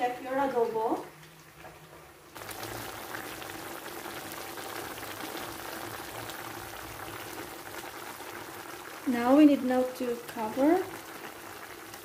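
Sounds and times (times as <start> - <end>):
sauce bubbling in a pan: 1.0 - 12.0.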